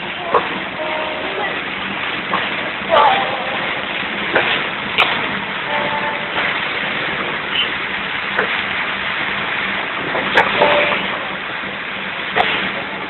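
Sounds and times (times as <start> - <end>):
low engine hum: 0.0 - 13.0
rain and tyre hiss: 0.0 - 13.0.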